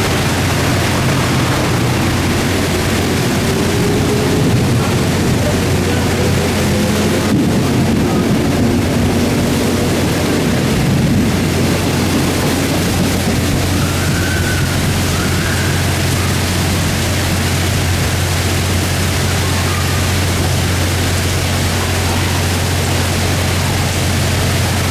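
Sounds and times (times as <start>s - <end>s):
electric train rumbling: 0.0s - 24.9s
heavy rain downpour: 0.0s - 24.9s.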